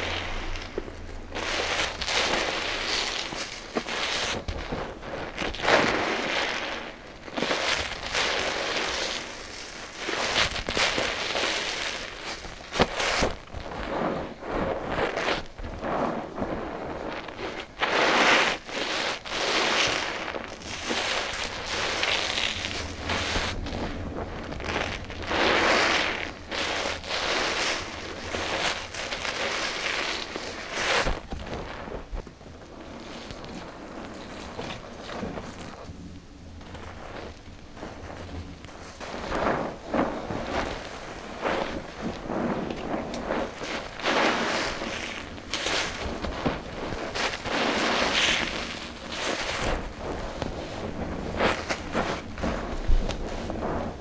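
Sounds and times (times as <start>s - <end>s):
sponge squishing lather: 0.0s - 54.0s.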